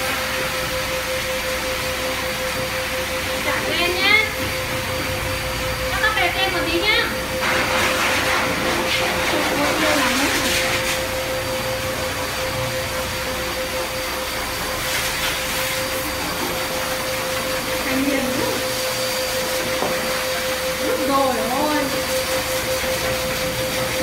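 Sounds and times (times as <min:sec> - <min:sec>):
pet grooming dryer blowing air: 0:00.0 - 0:24.0.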